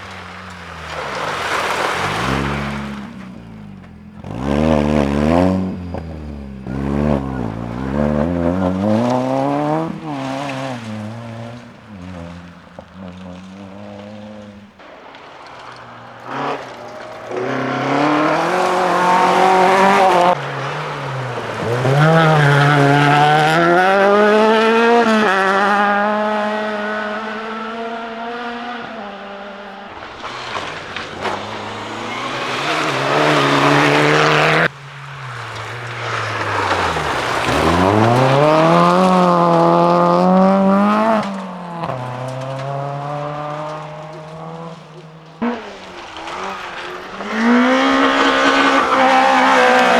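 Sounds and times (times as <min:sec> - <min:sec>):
rally cars revving past: 0:00.0 - 0:49.9.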